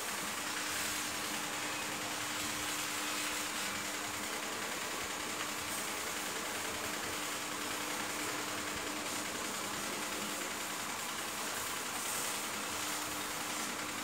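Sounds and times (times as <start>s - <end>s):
charcoal hiss: 0.0s - 14.0s
rotisserie motor hum: 0.0s - 14.0s.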